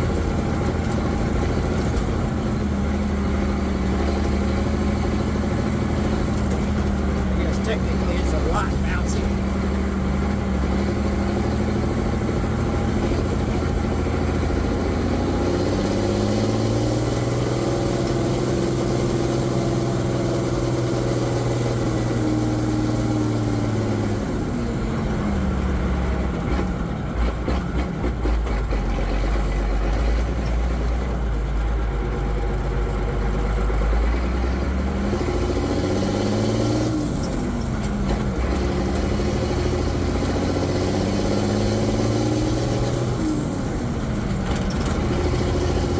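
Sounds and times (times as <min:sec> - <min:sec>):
truck engine from inside cab: 0:00.0 - 0:45.9.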